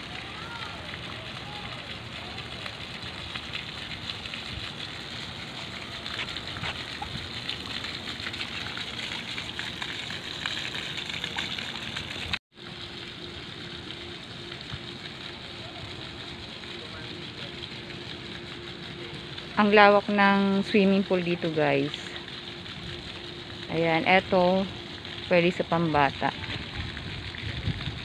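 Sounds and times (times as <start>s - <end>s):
fountain jets splashing into pool: 0.0s - 28.0s.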